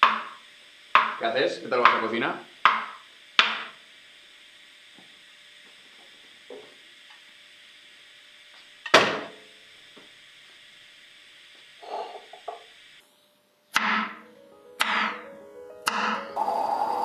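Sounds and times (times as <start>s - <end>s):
sizzling on stove: 0.0s - 13.0s, 15.8s - 17.0s.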